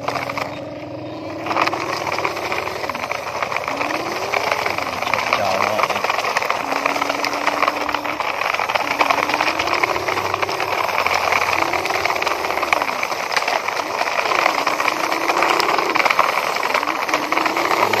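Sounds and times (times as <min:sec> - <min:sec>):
toy truck wheels grinding on dirt: 0:00.0 - 0:18.0.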